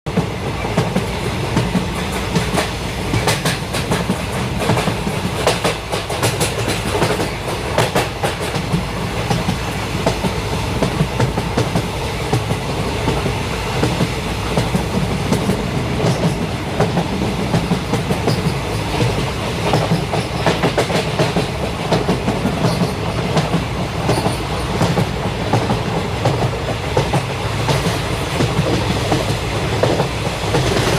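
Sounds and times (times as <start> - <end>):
train rumbling at speed: 0.0 - 30.9
wheels clicking over rail joints: 0.1 - 30.9.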